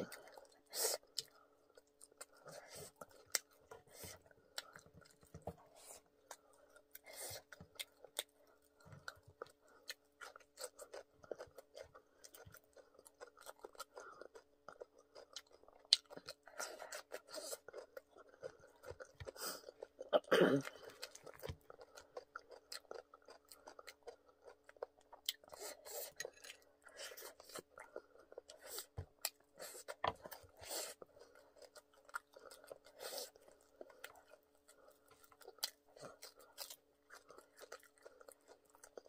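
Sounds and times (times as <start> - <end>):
faint steady hum: 0.0 - 39.0
person chewing crispy fried food: 0.0 - 39.0.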